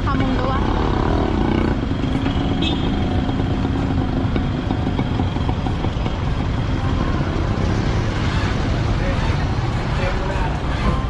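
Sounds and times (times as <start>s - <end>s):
motorcycle engine rumbling: 0.0s - 11.0s
street traffic: 0.0s - 11.0s.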